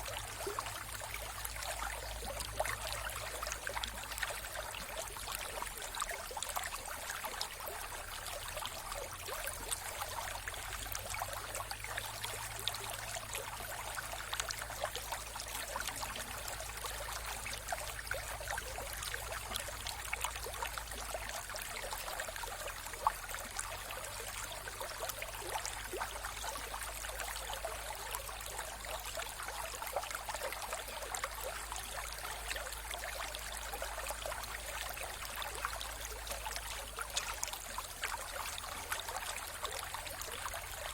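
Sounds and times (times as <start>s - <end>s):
water splashing and trickling: 0.0s - 40.9s.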